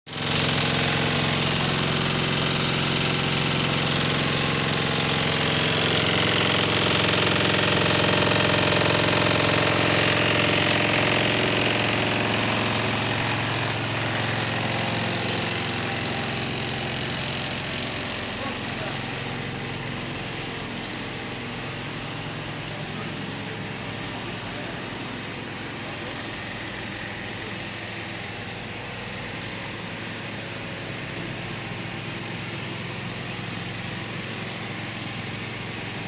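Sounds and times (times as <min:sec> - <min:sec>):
machinery hum with high hiss: 0:00.2 - 0:36.0.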